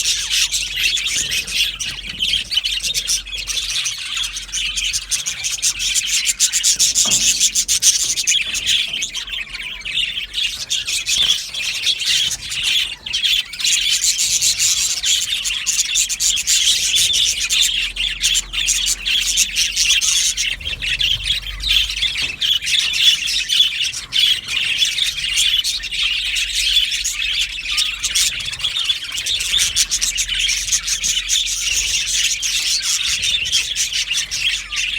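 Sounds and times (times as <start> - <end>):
budgerigars chattering and chirping: 0.0 - 34.9.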